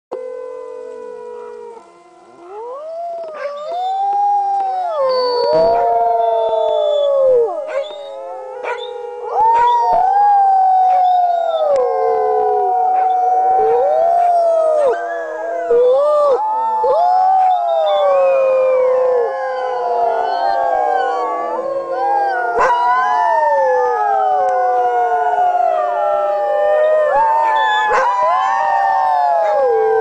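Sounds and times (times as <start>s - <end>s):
dogs howling in chorus: 0.1s - 30.0s.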